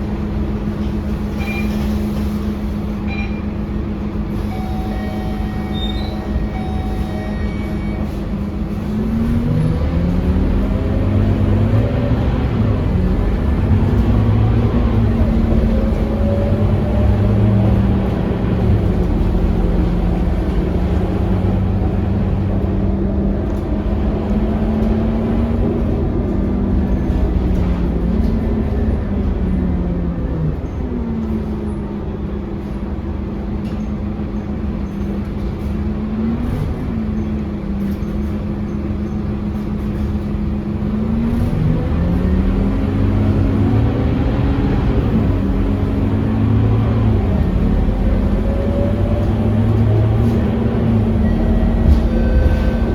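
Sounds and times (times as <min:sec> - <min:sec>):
bus diesel engine running: 0:00.0 - 0:52.9.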